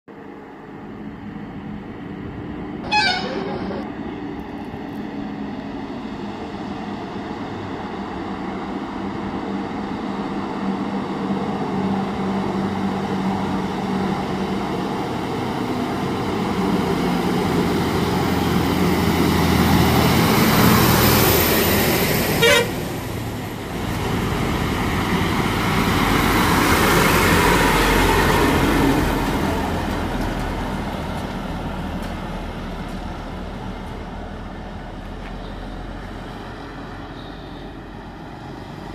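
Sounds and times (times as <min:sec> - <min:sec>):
diesel trucks driving past: 0:00.1 - 0:38.9.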